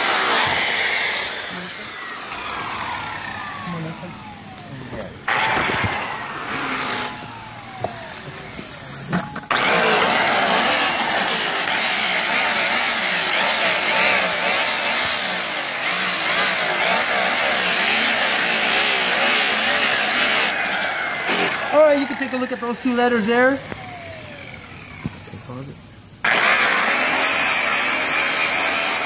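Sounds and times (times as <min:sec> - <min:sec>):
grinder buffing wheel whine: 0:00.0 - 0:29.0.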